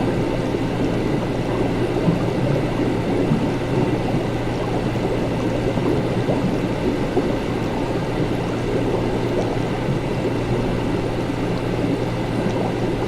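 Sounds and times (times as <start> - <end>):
even wash of noise: 0.0 - 13.0
steady low hum: 0.0 - 13.0.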